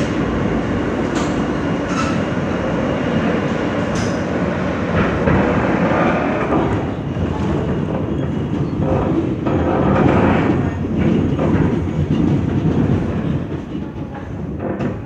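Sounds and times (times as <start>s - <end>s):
subway wheels on rails: 0.0s - 15.0s.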